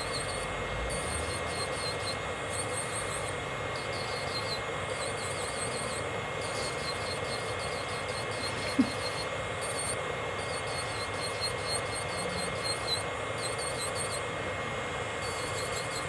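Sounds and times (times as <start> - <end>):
electric nail drill whining: 0.0 - 16.0.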